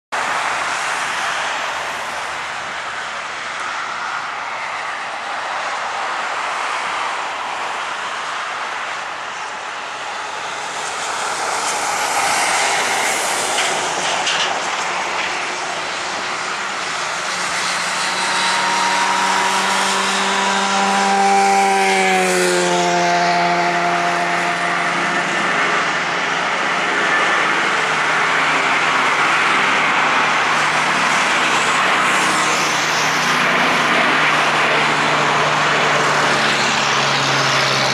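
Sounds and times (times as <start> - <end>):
jet airliner taking off: 0.2 - 37.9.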